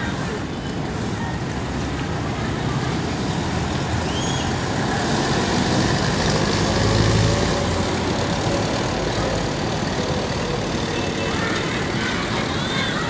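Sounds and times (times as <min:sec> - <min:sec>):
city traffic rumble: 0:00.0 - 0:13.0
heavy vehicle passing: 0:01.2 - 0:13.0.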